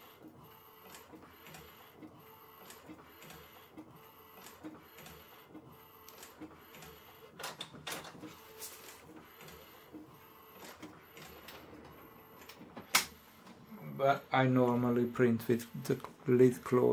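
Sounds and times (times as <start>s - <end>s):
printer carriage whirring: 0.0s - 16.9s
soft printer ticks: 0.0s - 16.9s.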